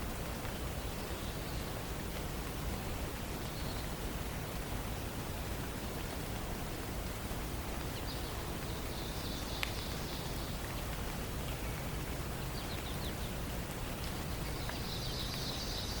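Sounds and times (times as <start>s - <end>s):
background hiss: 0.0s - 16.0s
songbirds chirping: 0.2s - 16.0s.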